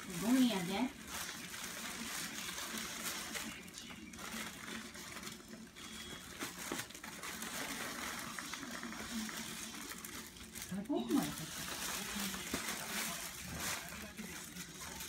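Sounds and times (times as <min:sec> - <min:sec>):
plastic bag rustling and crinkling: 0:00.0 - 0:15.0.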